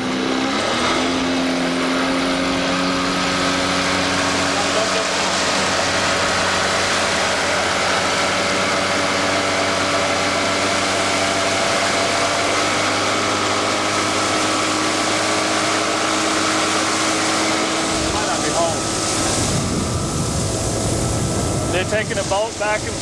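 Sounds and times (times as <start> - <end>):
motorboat engine running: 0.0 - 23.0
rushing water: 0.0 - 23.0
wind: 0.0 - 23.0.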